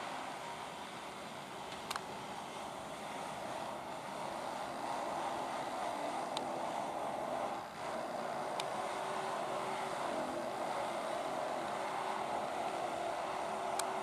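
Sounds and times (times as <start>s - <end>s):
faint hum: 0.0s - 14.0s
machinery droning: 0.0s - 14.0s.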